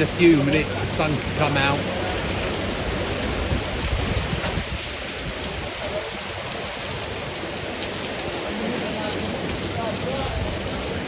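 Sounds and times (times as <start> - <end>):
heavy rain falling: 0.0 - 11.0
wind rumble on microphone: 0.8 - 11.0.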